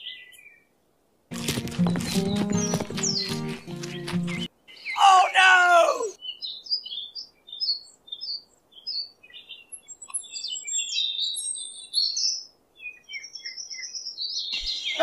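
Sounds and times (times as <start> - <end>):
small birds chirping: 0.0 - 0.7, 1.4 - 15.0.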